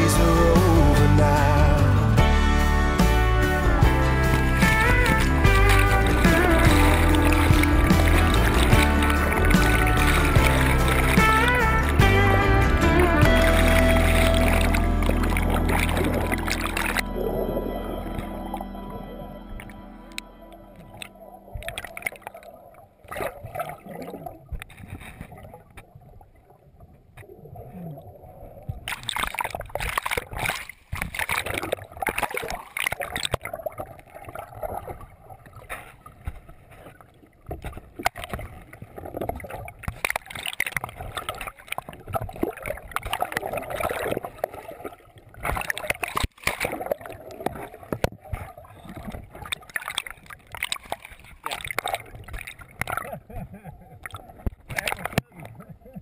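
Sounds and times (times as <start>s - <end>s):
muffled underwater river rushing: 0.0s - 56.0s.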